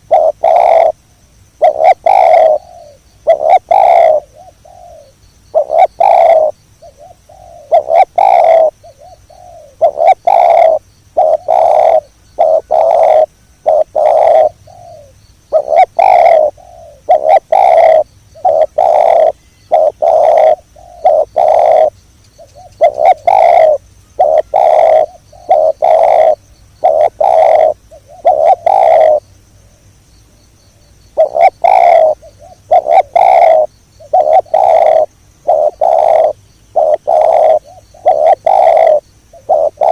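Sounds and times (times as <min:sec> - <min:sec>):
dove cooing: 0:00.0 - 0:01.0, 0:01.6 - 0:29.3, 0:31.1 - 0:39.9.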